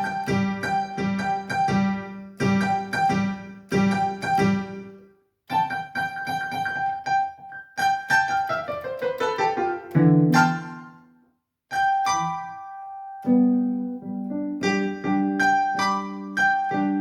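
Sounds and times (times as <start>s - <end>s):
electronic keyboard piano voice: 0.0s - 11.0s, 11.7s - 17.0s.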